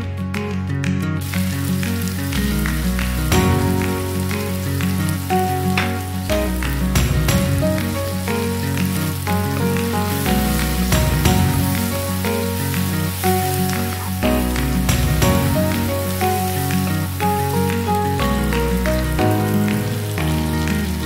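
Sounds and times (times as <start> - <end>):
background music: 0.0 - 21.0
vegetables sizzling in oil: 1.2 - 21.0.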